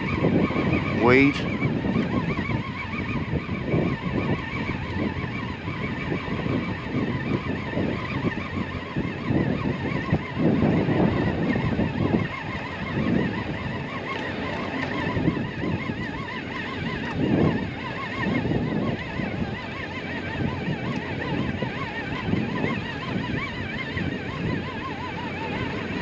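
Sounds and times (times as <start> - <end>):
fishing reel gears whining: 0.0 - 26.0
wind rumble on microphone: 0.0 - 26.0.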